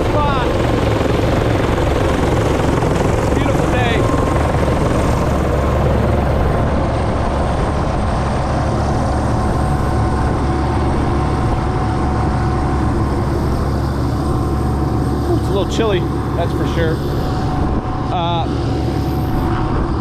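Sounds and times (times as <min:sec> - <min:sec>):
helicopter turbine idling: 0:00.0 - 0:20.0.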